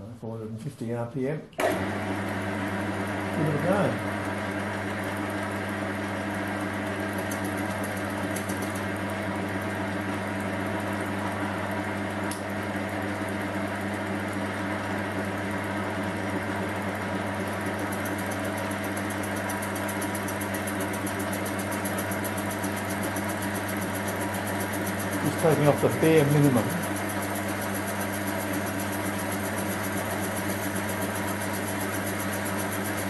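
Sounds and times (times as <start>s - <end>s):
metal lathe humming: 1.6s - 33.0s.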